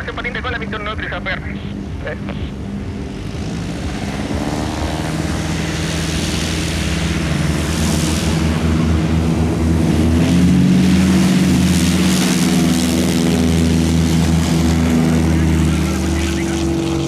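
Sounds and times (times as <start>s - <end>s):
propeller aircraft engines: 0.0s - 17.0s.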